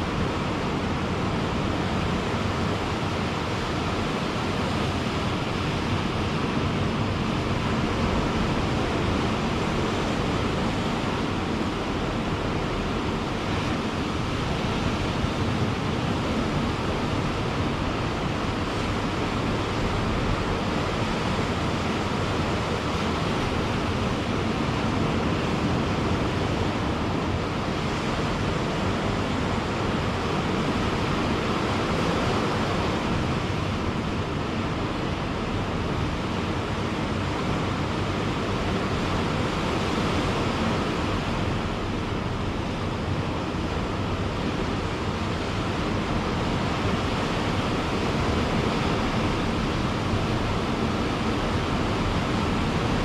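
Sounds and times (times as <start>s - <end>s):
waves washing onto a beach: 0.0s - 53.0s.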